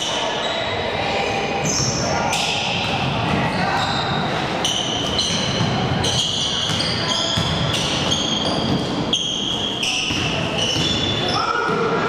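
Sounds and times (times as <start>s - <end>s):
voices of players and spectators: 0.0s - 12.0s
shoes squeaking on court: 1.6s - 11.8s.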